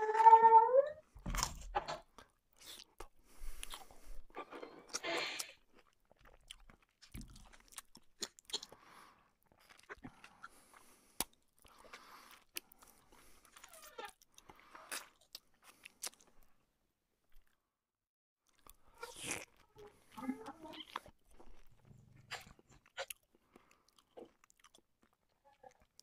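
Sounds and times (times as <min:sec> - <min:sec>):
wet chewing: 0:02.1 - 0:16.5, 0:18.4 - 0:26.0.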